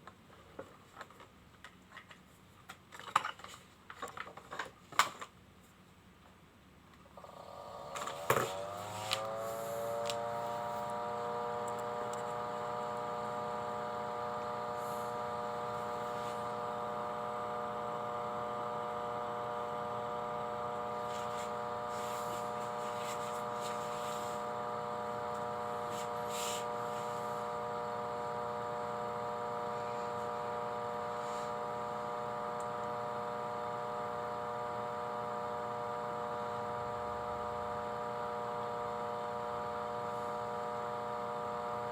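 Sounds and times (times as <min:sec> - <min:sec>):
small electric motor whining: 0:07.2 - 0:41.9.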